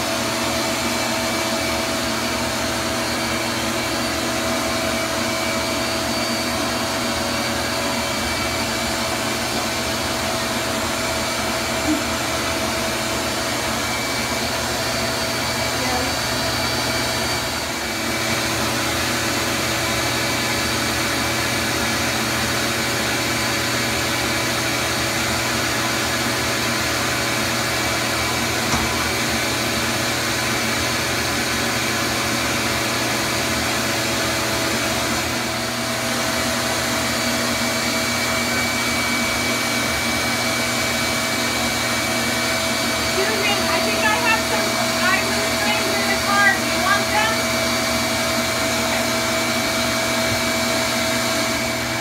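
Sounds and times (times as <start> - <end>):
vacuum motor whirring: 0.0 - 52.0.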